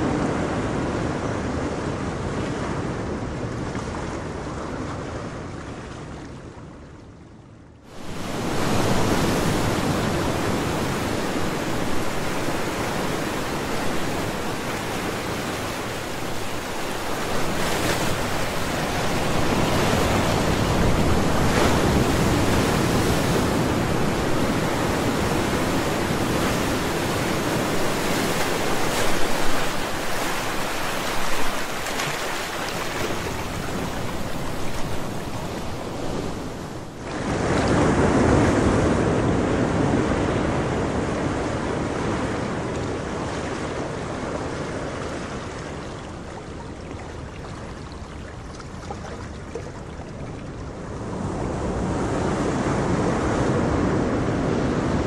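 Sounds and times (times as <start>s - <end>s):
ocean waves breaking: 7.9s - 55.0s.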